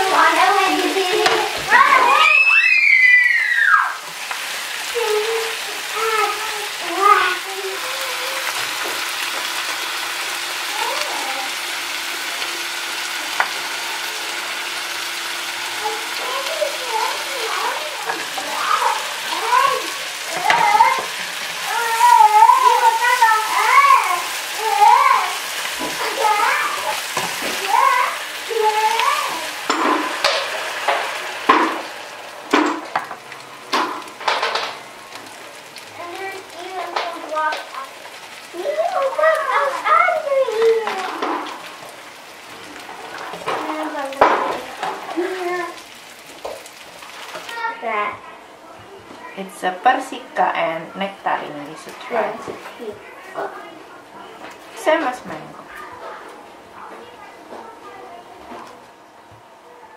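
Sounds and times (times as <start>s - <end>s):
meat and vegetables sizzling in pans: 0.0s - 59.9s.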